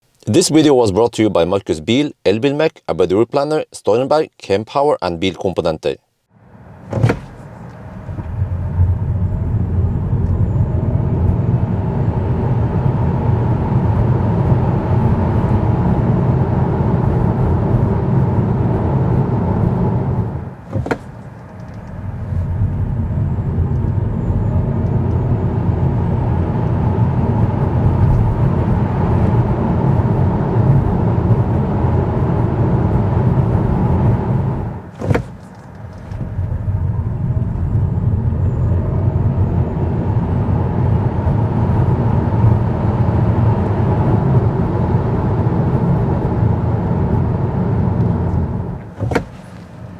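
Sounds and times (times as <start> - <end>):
car cabin road and tyre noise: 6.4 - 49.9.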